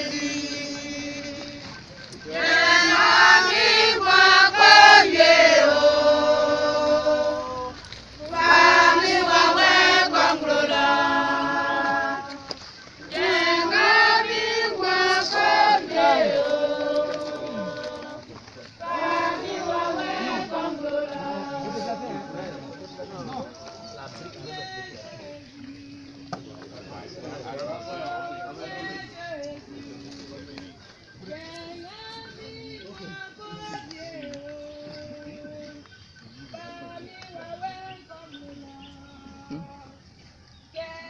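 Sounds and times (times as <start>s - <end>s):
crowd singing together: 0.0s - 40.2s.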